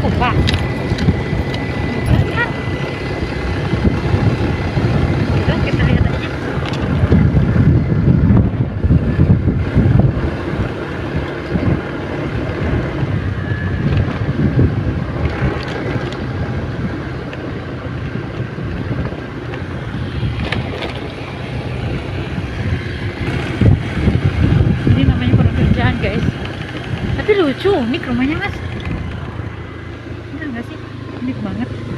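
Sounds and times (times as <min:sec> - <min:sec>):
vehicle engine noise: 0:00.0 - 0:31.9
wind buffeting microphone: 0:00.0 - 0:31.9.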